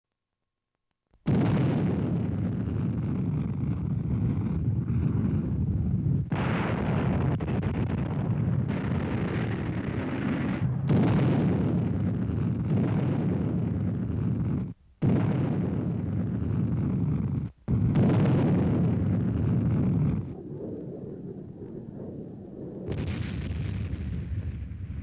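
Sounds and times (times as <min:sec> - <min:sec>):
rocket motors rumbling at launch: 0:01.3 - 0:25.0.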